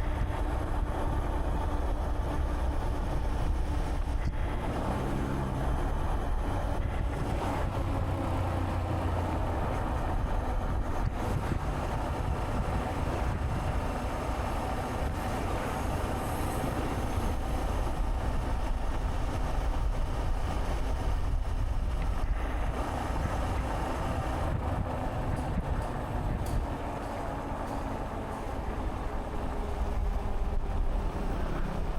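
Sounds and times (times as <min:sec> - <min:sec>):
wind and road noise: 0:00.0 - 0:31.9.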